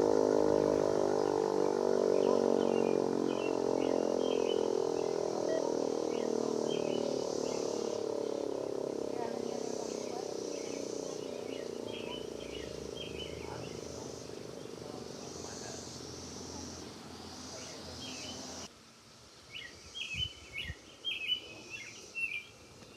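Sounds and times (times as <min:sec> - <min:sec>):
birds chirping: 0:00.0 - 0:18.7, 0:19.5 - 0:22.9
warning siren winding down: 0:00.0 - 0:18.7.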